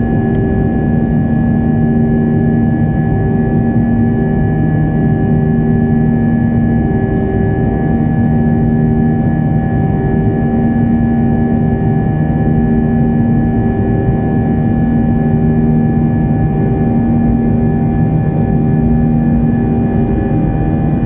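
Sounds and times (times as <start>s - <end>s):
jet engines heard in cabin: 0.0s - 21.0s.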